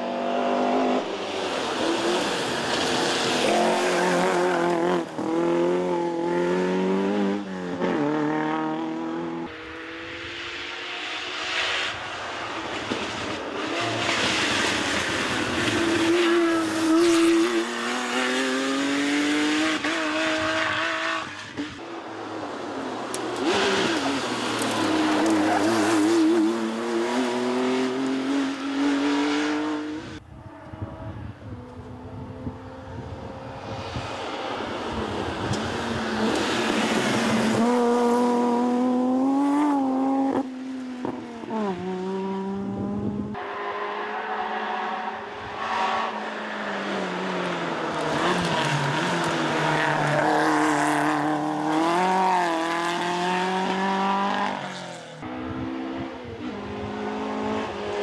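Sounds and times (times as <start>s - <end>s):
rally car engines revving: 0.0s - 30.2s, 31.8s - 58.0s.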